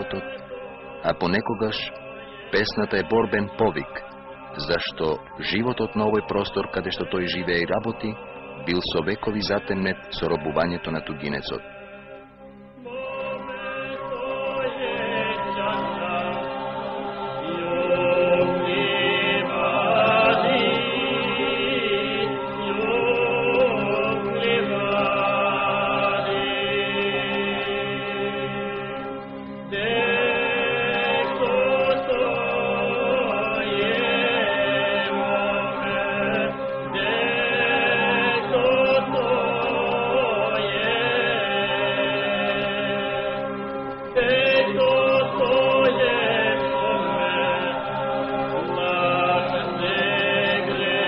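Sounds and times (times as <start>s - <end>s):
folk singing with drone: 0.0s - 51.0s.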